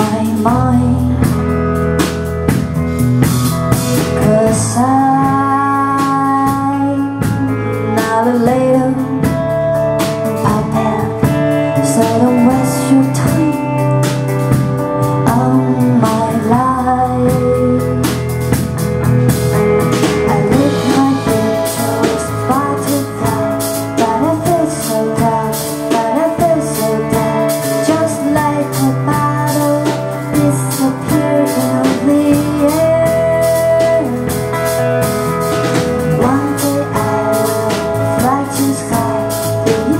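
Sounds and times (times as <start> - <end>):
person singing: 0.0 - 1.6, 3.8 - 18.7, 20.0 - 35.1, 35.8 - 39.9
drums: 0.0 - 39.9
guitar: 0.0 - 39.9.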